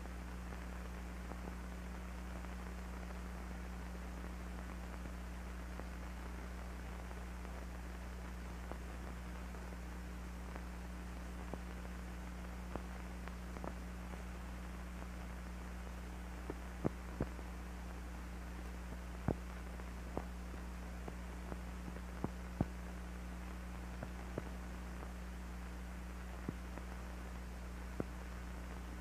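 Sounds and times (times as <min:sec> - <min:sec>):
film crackle clicks and pops: 0:00.0 - 0:29.0
steady low hum: 0:00.0 - 0:29.0.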